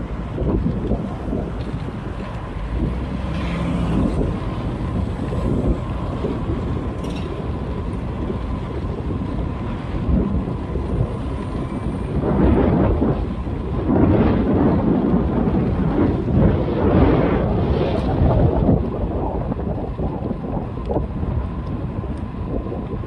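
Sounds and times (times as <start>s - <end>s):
road noise: 0.0s - 23.0s
wind rumble: 0.0s - 23.0s.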